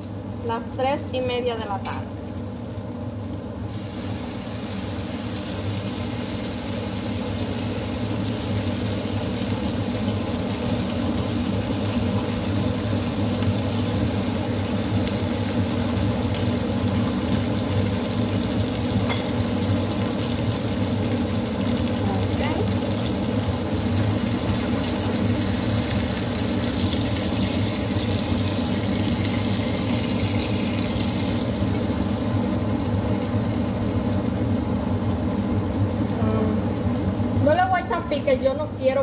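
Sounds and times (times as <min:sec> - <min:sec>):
fish sizzling in a pan: 0:00.0 - 0:39.0
low even hum: 0:00.0 - 0:39.0.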